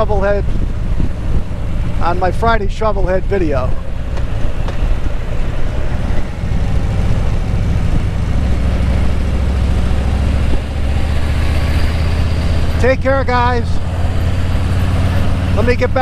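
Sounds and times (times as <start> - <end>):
motorcycle engine rumbling: 0.0 - 16.0
wind rushing over microphone: 0.0 - 16.0.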